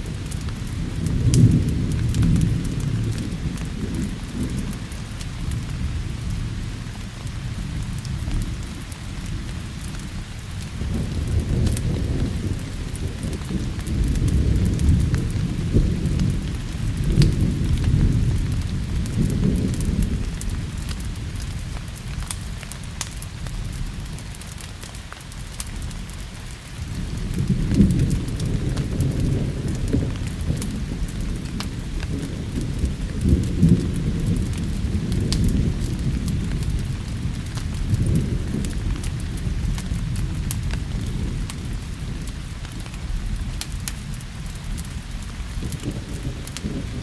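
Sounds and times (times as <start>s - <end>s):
rolling thunder: 0.0s - 22.4s, 26.8s - 47.0s
steady rain: 0.0s - 47.0s.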